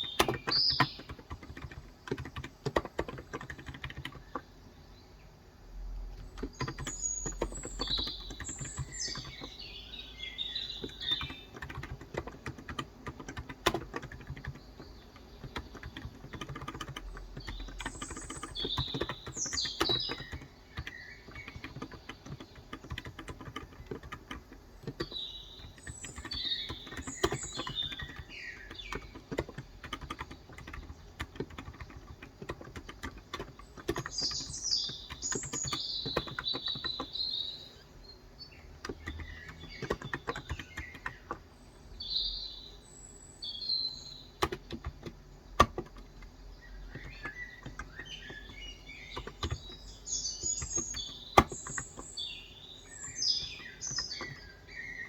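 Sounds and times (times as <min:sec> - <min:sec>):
keyboard typing: 0:00.0 - 0:04.5, 0:06.1 - 0:37.8, 0:38.7 - 0:42.0, 0:44.3 - 0:55.0
birds chirping: 0:00.0 - 0:55.0.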